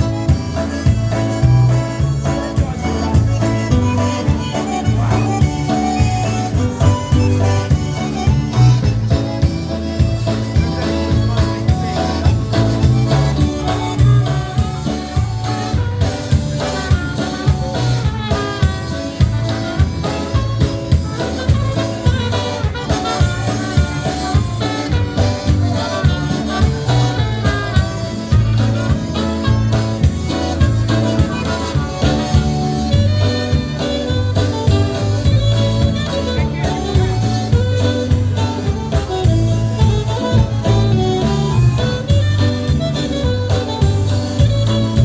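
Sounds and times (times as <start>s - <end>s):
alto saxophone lead: 0.0s - 45.0s
polka band playing: 0.0s - 45.0s.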